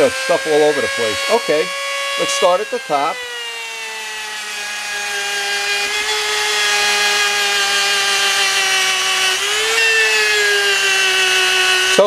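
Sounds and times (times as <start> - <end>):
rotary tool buffing metal: 0.0 - 12.0.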